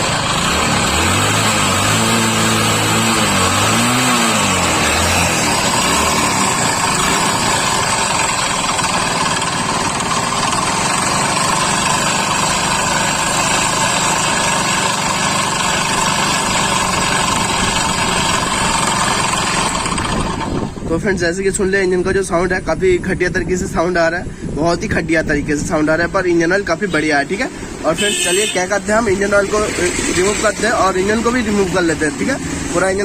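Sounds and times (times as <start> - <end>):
motorcycle engine with rough rattle: 0.0 - 33.0.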